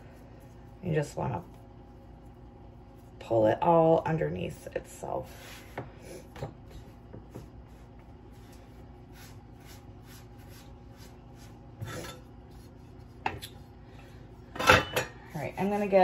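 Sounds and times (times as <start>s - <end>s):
hands rubbing dough on board: 0.0s - 14.3s, 15.4s - 16.0s.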